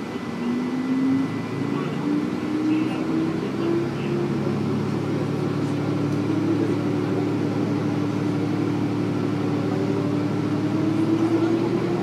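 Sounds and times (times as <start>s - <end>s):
diesel engine under load: 0.0s - 12.0s.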